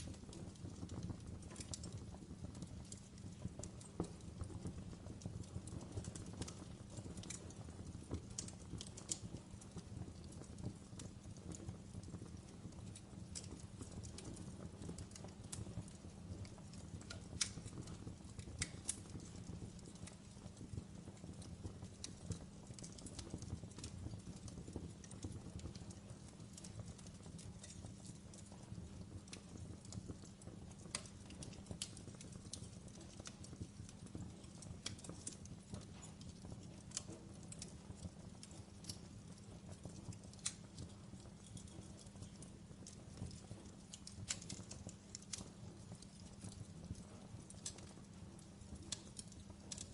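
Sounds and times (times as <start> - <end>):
fire crackling and popping: 0.0 - 49.9
fire rumbling: 0.0 - 49.9.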